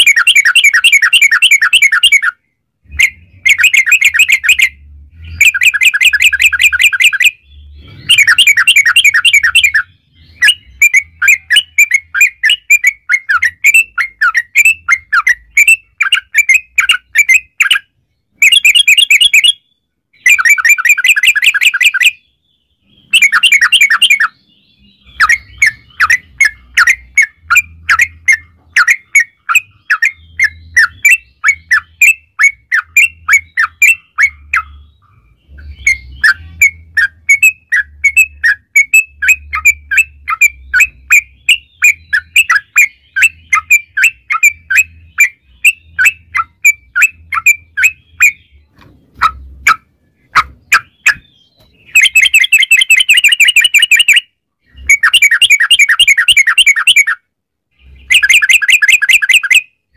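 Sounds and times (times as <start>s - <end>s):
bird singing rapid trills: 0.0s - 59.9s.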